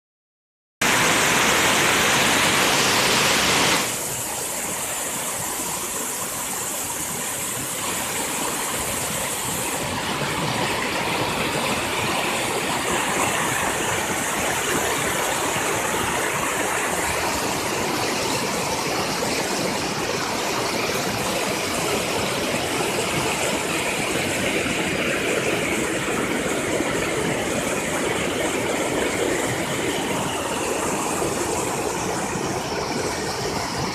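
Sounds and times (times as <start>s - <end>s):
water rushing over rapids: 0.8s - 33.9s.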